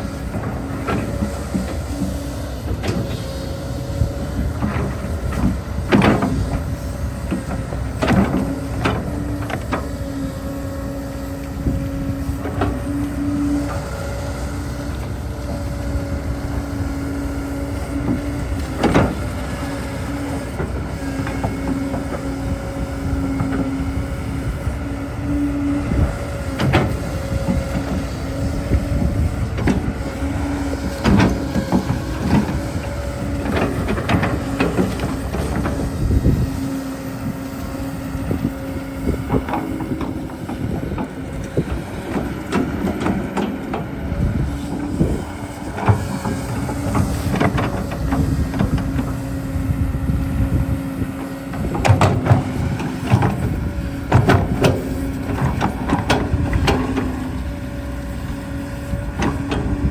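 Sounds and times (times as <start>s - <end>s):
excavator machine hum: 0.0s - 59.9s.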